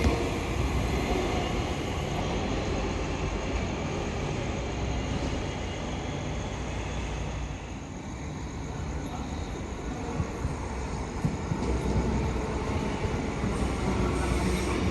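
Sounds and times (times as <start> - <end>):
train rumbling past: 0.0 - 14.9.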